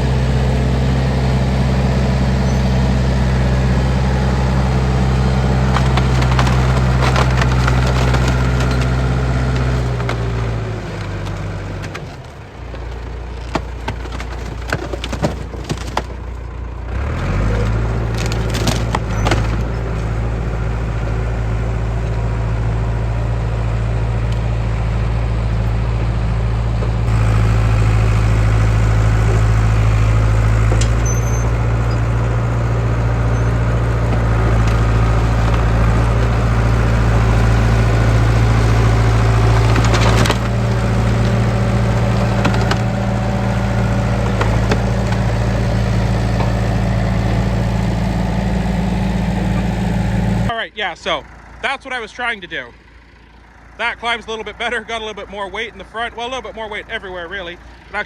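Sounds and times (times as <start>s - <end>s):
bulldozer engine running: 0.0s - 58.0s.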